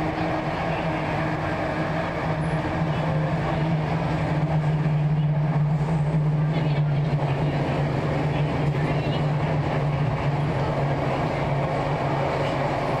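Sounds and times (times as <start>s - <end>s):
electric train interior rumble: 0.0s - 13.0s.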